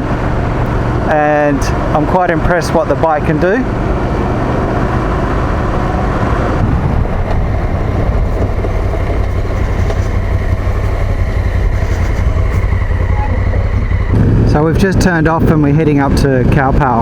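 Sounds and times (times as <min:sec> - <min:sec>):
motorcycle engine rumble: 0:00.0 - 0:17.0
road and wind noise: 0:00.0 - 0:17.0.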